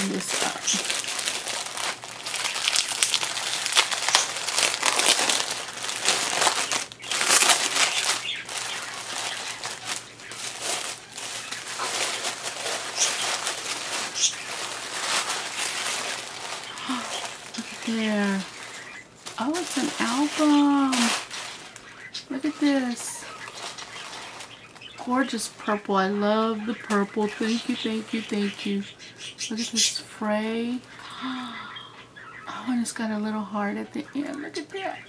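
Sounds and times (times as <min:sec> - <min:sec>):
gift wrapping crinkling: 0:00.0 - 0:28.9.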